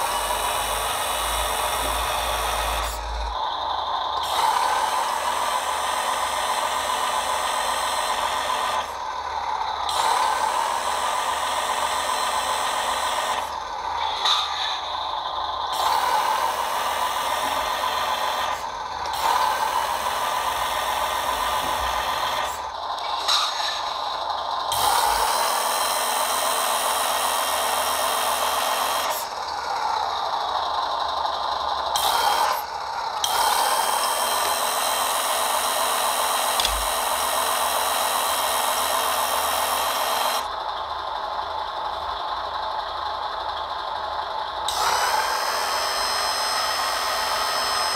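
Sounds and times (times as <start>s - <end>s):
hydraulic system running: 0.0s - 47.9s.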